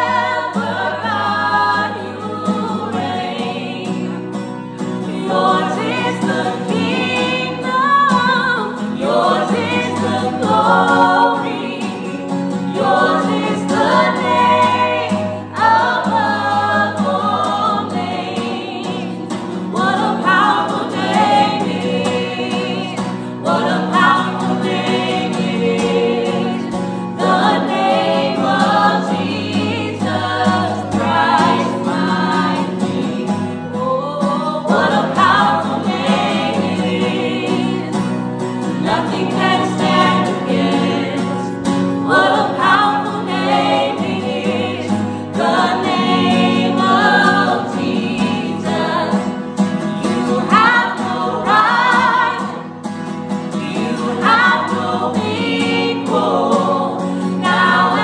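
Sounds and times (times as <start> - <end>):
acoustic guitar strummed: 0.0 - 58.0
group singing worship song: 0.0 - 58.0.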